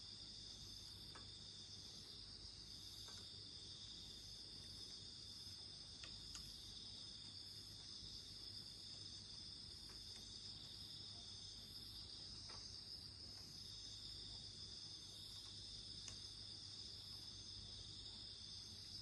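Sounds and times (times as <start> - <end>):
night insects chorus: 0.0 - 19.0.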